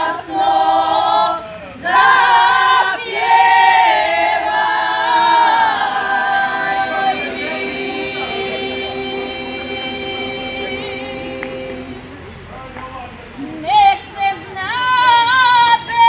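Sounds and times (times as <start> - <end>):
women singing unaccompanied: 0.0 - 12.1, 13.6 - 16.0.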